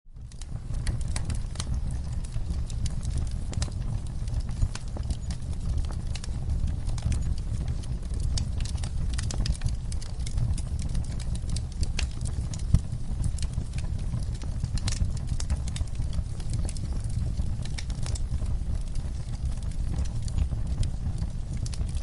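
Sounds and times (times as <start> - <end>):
steady low rumble: 0.1 - 22.0
wood fire crackling and popping: 0.1 - 22.0.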